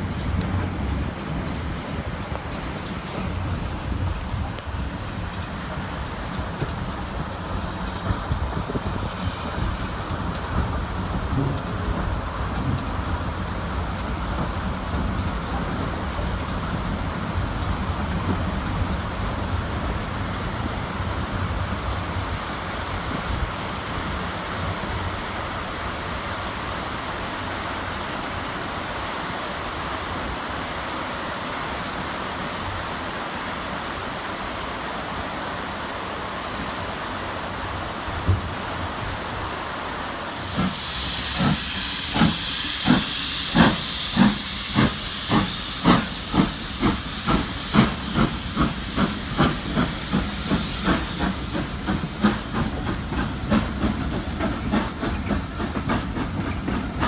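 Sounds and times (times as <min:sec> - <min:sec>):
train carriage rumble and rail noise: 0:00.0 - 0:57.0.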